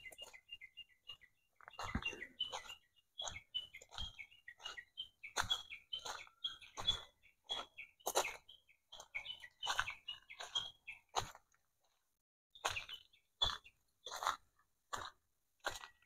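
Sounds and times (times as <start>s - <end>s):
small birds chirping: 0.0s - 12.0s, 12.6s - 16.0s
footsteps crunching on gravel: 1.6s - 12.0s, 12.6s - 16.0s.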